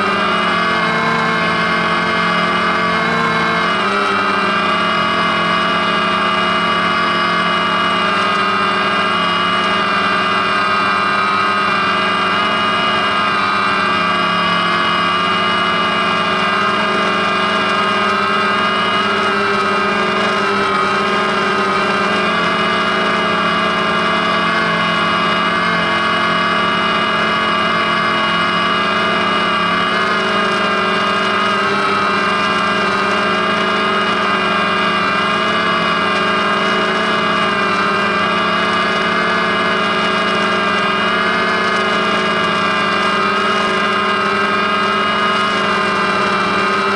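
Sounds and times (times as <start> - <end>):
drone motors and propellers whining: 0.0 - 46.9.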